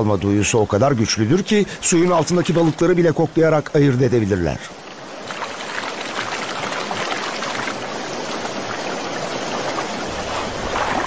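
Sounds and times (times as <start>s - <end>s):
river water flowing: 0.0s - 11.0s
water splashes and drips: 1.3s - 11.0s.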